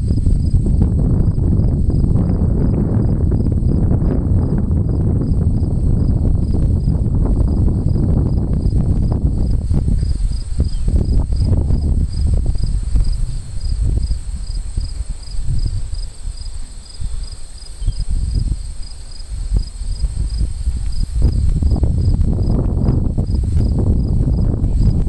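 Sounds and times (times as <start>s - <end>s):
insects pulsing chirp: 0.0s - 25.0s
loud uneven low rumble: 0.0s - 25.0s.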